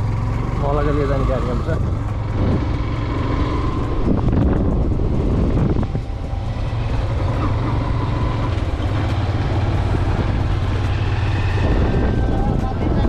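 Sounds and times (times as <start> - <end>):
motorcycle engine running: 0.0 - 13.0
wind rushing over microphone: 1.9 - 13.0.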